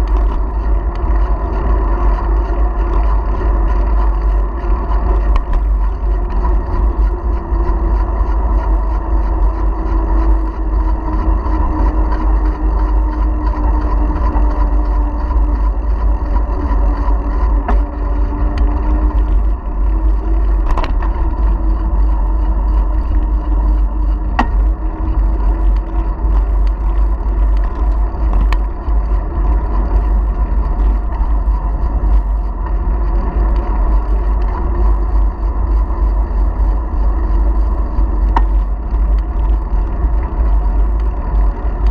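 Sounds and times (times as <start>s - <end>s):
bike riding hum: 0.0s - 41.9s
sharp clicks from bike: 0.0s - 41.9s
wind rumbling on microphone: 0.0s - 41.9s.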